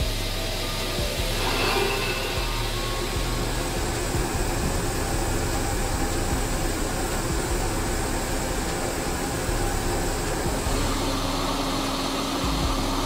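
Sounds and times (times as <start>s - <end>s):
even machinery hiss: 0.0s - 13.0s
rolling mill machinery hum: 0.0s - 13.0s.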